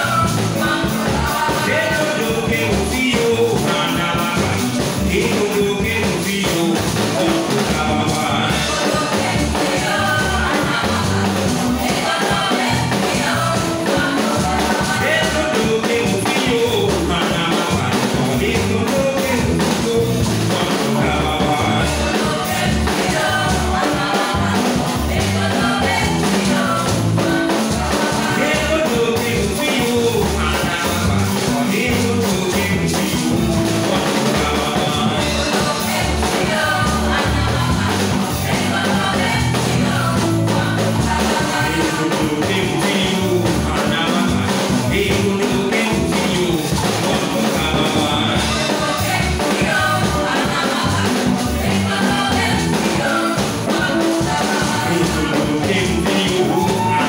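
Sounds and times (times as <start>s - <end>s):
upbeat praise music with singing: 0.0s - 57.0s.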